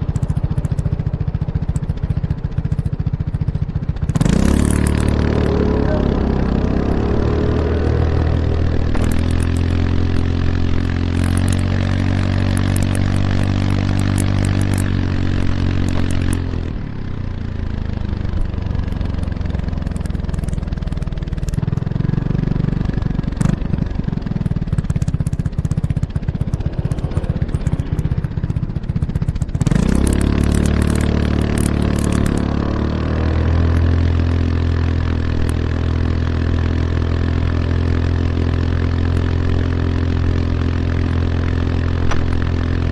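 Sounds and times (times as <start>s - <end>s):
scooter engine exhaust: 0.0s - 42.9s.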